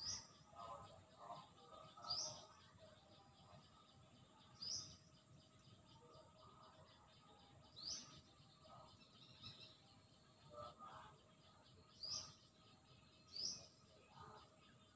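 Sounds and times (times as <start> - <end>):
outdoor background noise: 0.0 - 14.9.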